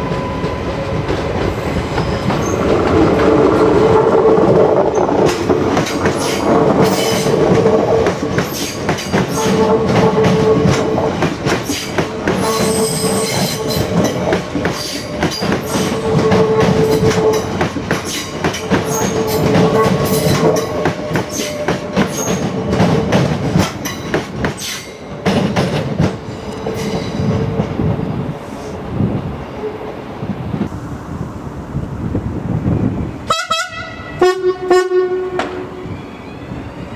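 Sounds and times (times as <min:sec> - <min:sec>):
train clicking on rails: 0:00.0 - 0:28.4, 0:34.2 - 0:35.8.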